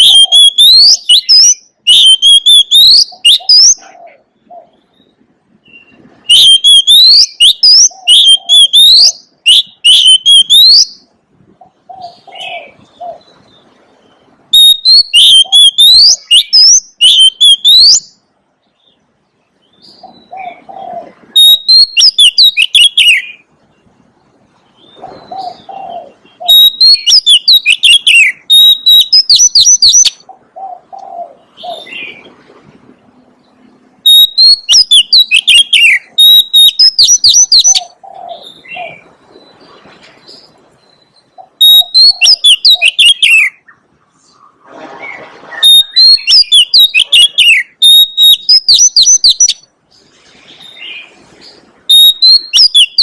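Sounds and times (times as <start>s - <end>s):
bird singing whistled notes: 0.0s - 3.9s, 4.6s - 11.1s, 11.9s - 19.0s, 19.6s - 23.5s, 24.7s - 30.2s, 34.0s - 43.8s, 45.6s - 49.7s, 50.6s - 53.0s
low cooing calls: 0.0s - 14.0s, 14.6s - 18.0s, 19.8s - 23.5s, 24.8s - 49.5s.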